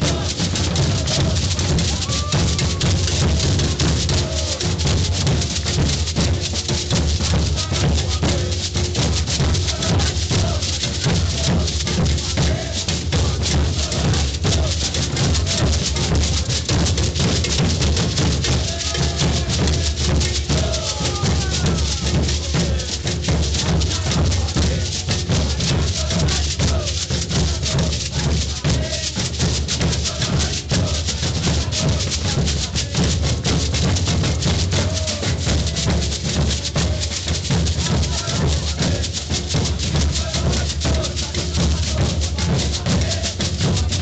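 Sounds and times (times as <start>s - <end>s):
deep bass drums: 0.0s - 44.0s
quick drum strokes: 0.0s - 44.0s
rattles shaking: 0.0s - 44.0s.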